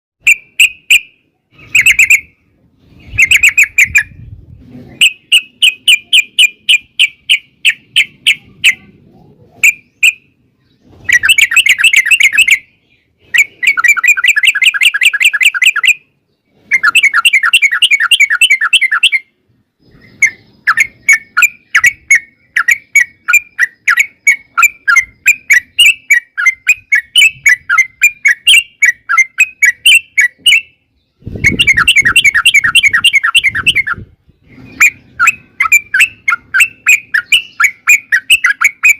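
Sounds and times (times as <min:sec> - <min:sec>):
bird singing: 0:00.2 - 0:04.2, 0:05.0 - 0:38.9.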